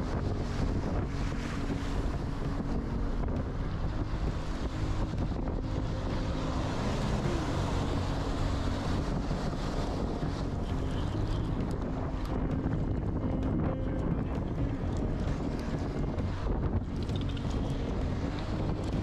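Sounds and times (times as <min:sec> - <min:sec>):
waves breaking on shore: 0:00.0 - 0:19.0
wind noise on microphone: 0:00.0 - 0:19.0.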